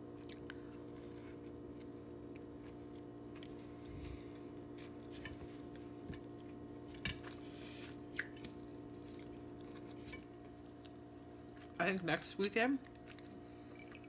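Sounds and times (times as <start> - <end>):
person chewing food: 0.0 - 11.8, 12.8 - 14.0.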